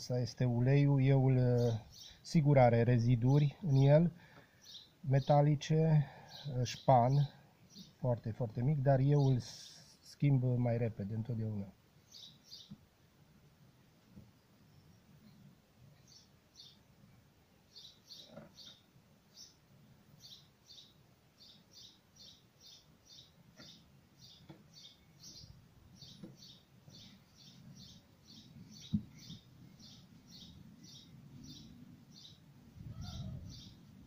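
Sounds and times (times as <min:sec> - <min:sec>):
small birds chirping: 0:00.2 - 0:13.0, 0:14.0 - 0:34.0.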